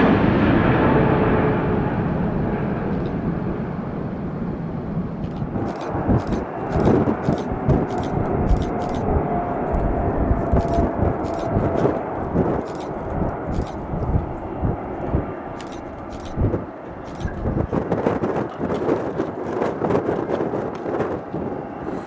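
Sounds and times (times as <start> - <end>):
jet engines rumbling: 0.0 - 22.0
low buffeting: 2.9 - 22.0.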